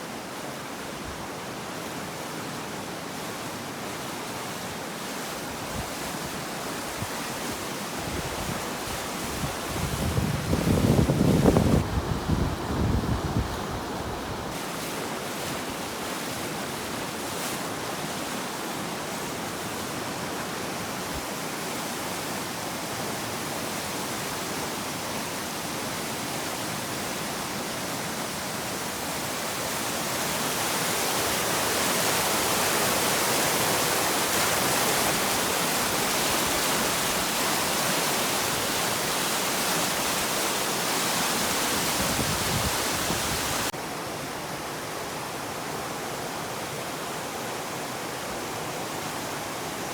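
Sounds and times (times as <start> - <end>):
flooded river rushing: 0.0 - 49.9.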